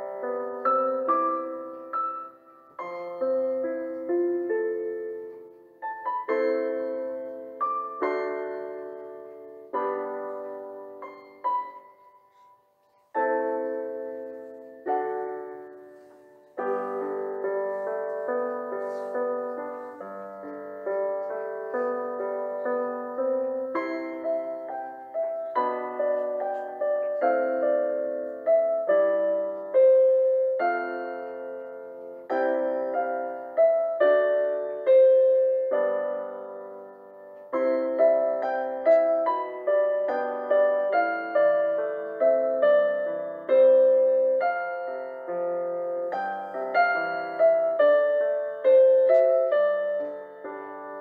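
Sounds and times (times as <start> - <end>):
slow solo piano music: 0.0 - 51.0.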